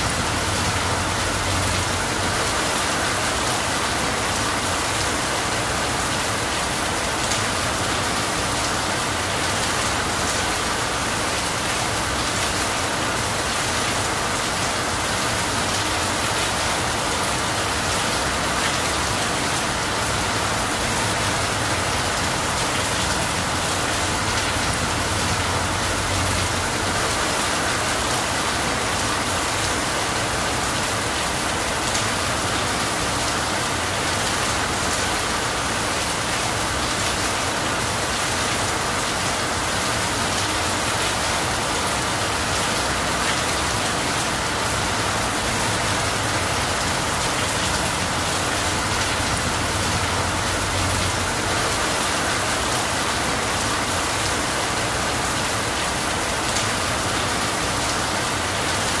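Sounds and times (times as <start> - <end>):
rain falling on a leafy tree: 0.0 - 59.0.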